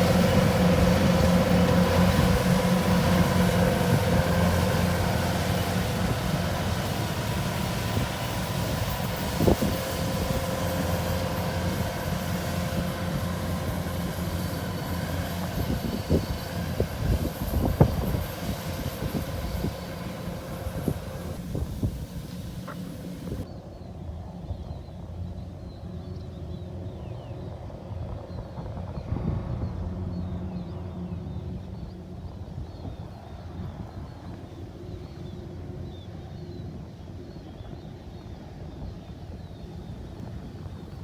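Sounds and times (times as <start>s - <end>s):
combine harvester engine hum: 0.0s - 41.0s.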